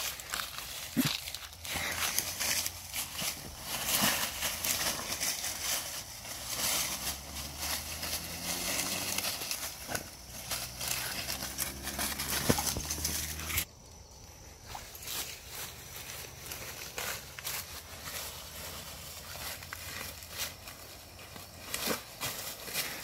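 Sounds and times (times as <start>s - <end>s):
footsteps through dry leaves: 0.0s - 13.7s, 14.6s - 23.0s.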